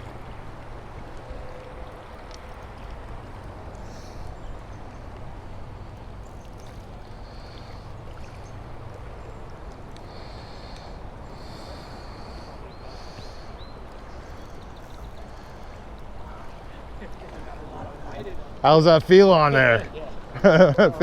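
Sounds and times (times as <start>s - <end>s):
river current rushing: 0.0s - 21.0s.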